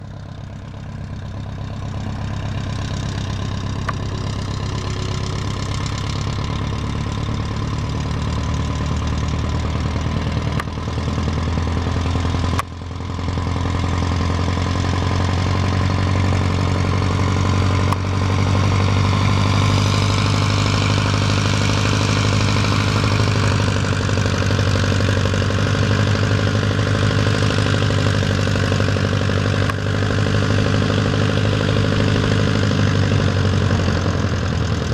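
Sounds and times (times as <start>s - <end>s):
small aircraft engine running: 0.0s - 34.9s.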